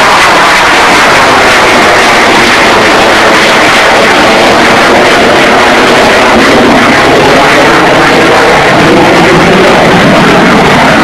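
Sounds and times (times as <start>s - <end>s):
fighter jet flying overhead: 0.0s - 11.0s.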